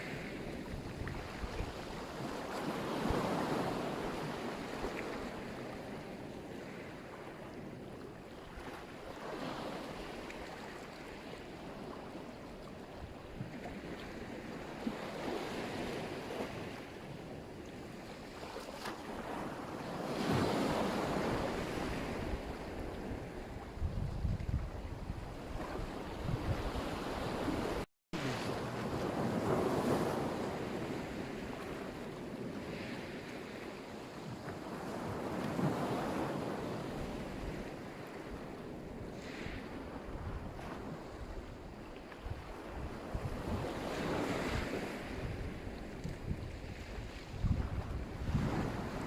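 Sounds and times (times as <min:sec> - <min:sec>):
waves breaking on shore: 0:00.0 - 0:49.0
wind rumble on microphone: 0:00.0 - 0:49.0.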